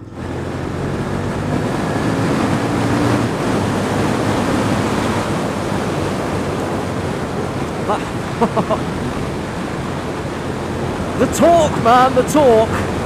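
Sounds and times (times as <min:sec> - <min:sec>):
motorcycle engine drone: 0:00.0 - 0:13.0
wind roaring over helmet camera: 0:00.0 - 0:13.0.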